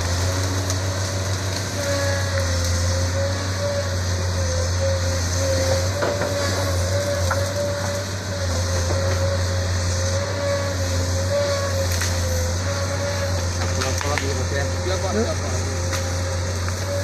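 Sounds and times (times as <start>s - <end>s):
diesel excavator engine running: 0.0s - 17.0s.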